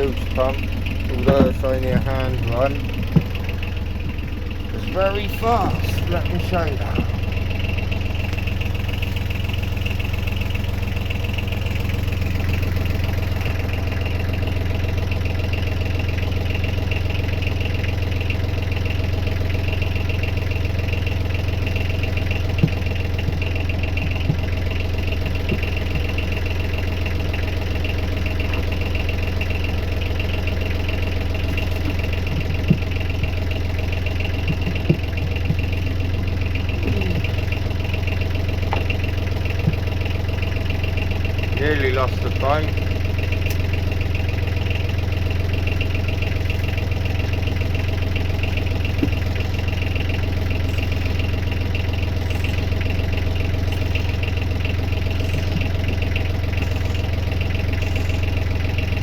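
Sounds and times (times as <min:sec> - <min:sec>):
boat engine idling: 0:00.0 - 0:59.0
engine knocks: 0:00.0 - 0:59.0.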